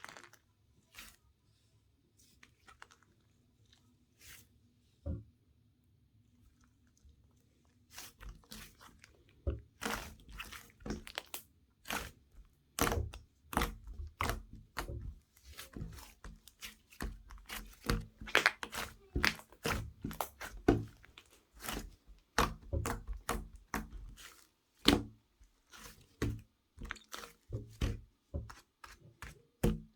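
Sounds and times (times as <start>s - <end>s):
crunching and crinkling: 0.0s - 1.2s, 2.2s - 4.4s, 6.9s - 29.9s.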